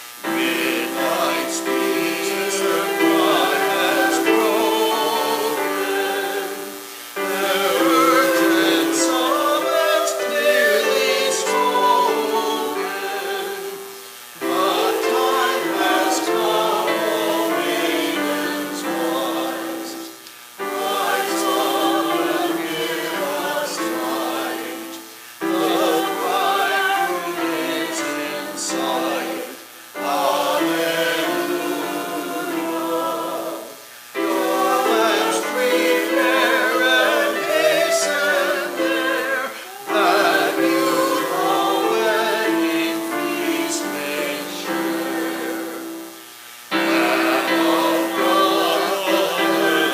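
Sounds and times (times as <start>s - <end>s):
small choir singing: 0.0s - 49.9s.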